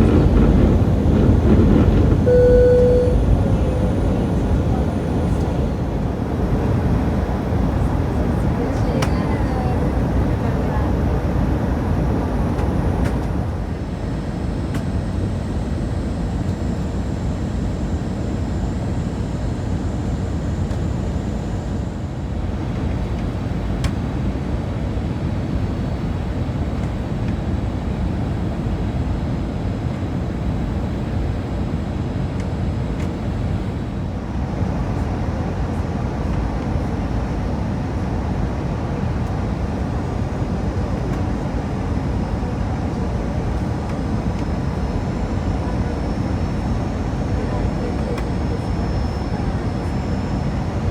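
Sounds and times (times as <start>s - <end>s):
jet engines rumbling in cabin: 0.0s - 50.9s.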